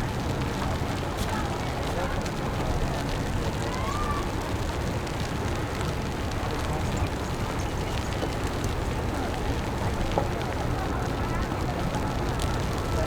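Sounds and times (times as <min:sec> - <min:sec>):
faint voices of passers-by: 0:00.0 - 0:13.0
low traffic rumble: 0:00.0 - 0:13.0.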